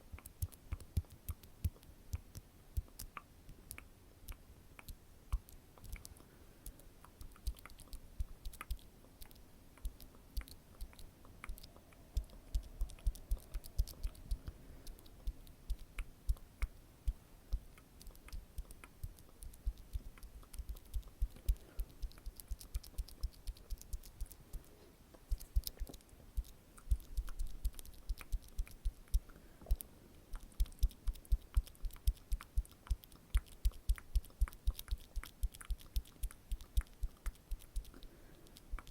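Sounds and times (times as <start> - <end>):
wet mouth clicks: 0.1 - 38.9.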